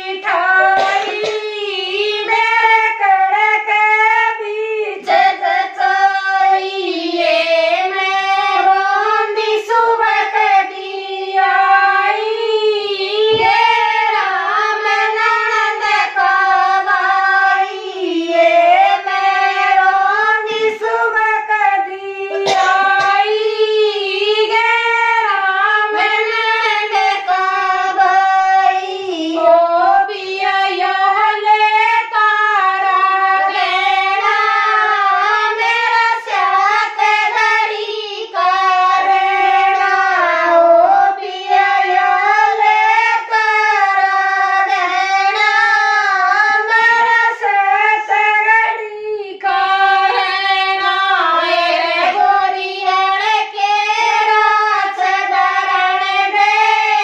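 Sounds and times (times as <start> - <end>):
women singing unaccompanied: 0.0 - 57.0.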